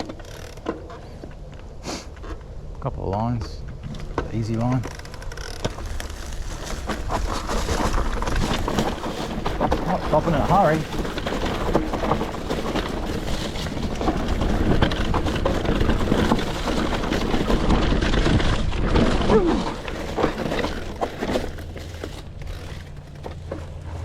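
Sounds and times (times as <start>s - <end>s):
bike rattling over rough trail: 0.0s - 24.0s.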